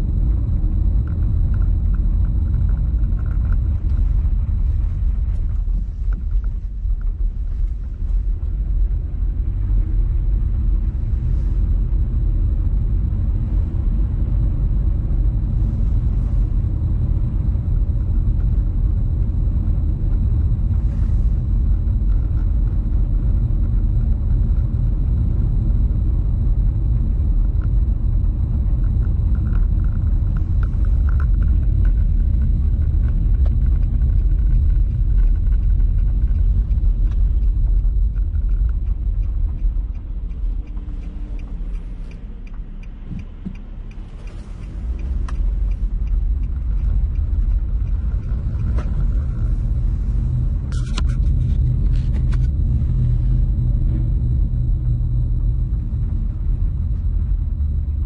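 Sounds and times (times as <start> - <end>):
car interior road and engine noise: 0.0 - 58.0.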